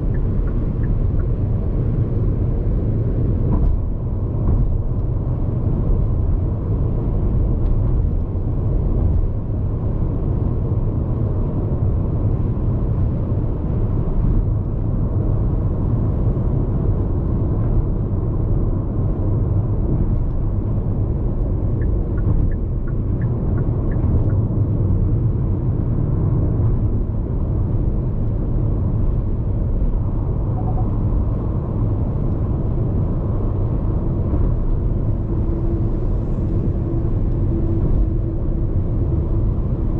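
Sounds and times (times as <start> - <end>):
tyre road noise: 0.0 - 39.9
wind noise inside car: 0.0 - 39.9.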